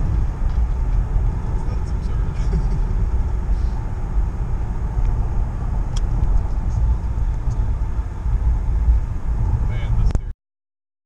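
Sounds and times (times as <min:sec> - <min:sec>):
car engine low rumble: 0:00.0 - 0:10.3
road noise: 0:00.0 - 0:10.3.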